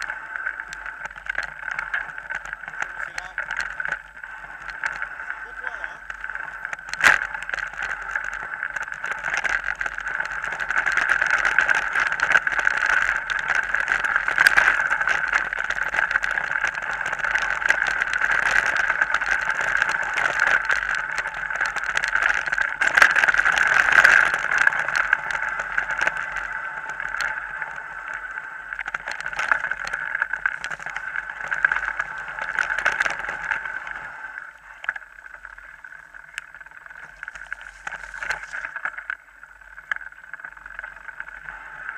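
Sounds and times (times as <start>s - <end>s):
wind and tyre noise: 0.0s - 41.9s.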